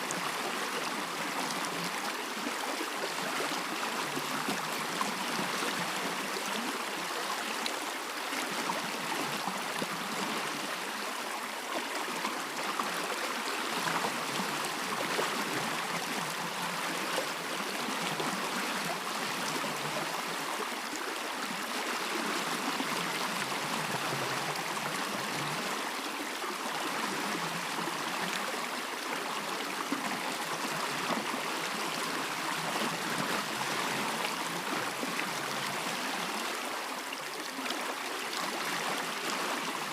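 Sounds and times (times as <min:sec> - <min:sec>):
stream of flowing water: 0:00.0 - 0:39.9.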